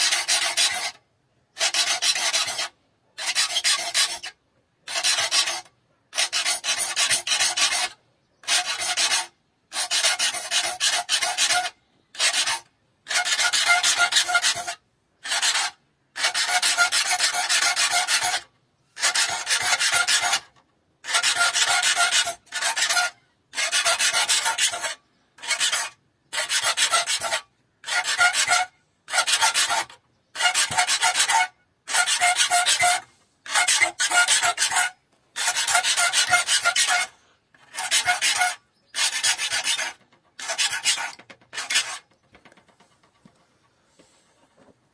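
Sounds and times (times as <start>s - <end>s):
file rasping on saw teeth: 0.0s - 42.1s.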